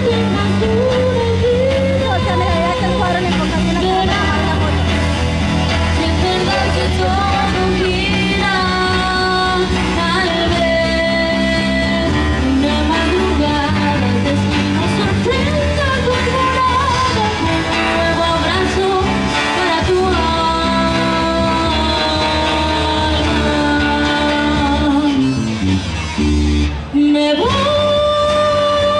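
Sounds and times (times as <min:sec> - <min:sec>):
woman singing rock song: 0:00.0 - 0:25.6, 0:26.8 - 0:28.9
live band with electric guitar: 0:00.0 - 0:28.9.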